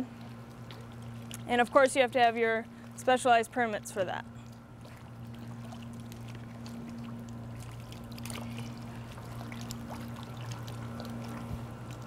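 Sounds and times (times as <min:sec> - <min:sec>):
small splashes: 0:00.0 - 0:12.0
steady low hum: 0:00.0 - 0:12.0
water trickling and lapping: 0:00.0 - 0:12.0.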